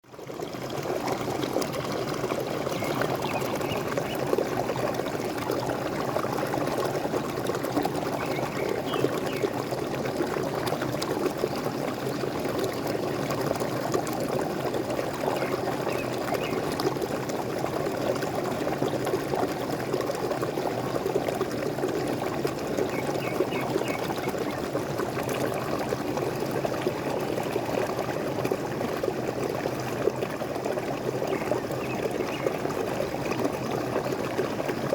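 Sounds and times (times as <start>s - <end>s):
waterfall splashing and gurgling: 0.4s - 34.9s.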